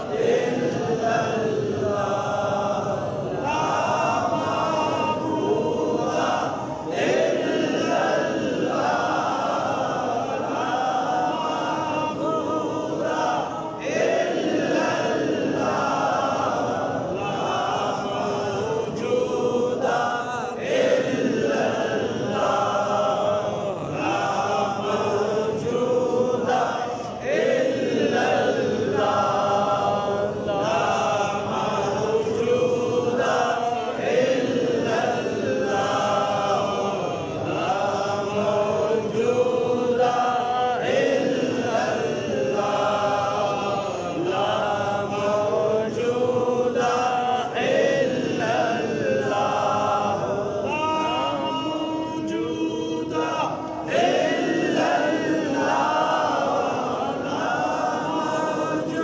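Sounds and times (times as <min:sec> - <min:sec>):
voices chanting in unison: 0:00.0 - 0:59.0.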